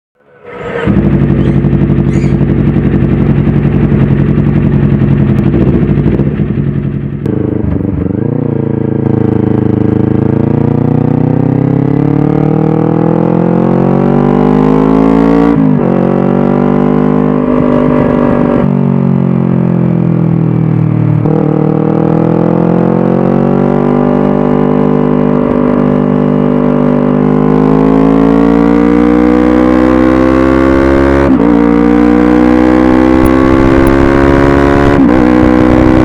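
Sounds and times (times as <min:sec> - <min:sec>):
motorcycle engine revving: 0:00.2 - 0:36.0.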